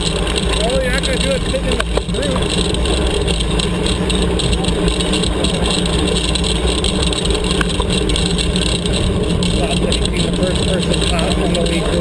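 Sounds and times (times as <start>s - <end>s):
bike tyres rolling over dirt: 0.0s - 12.0s.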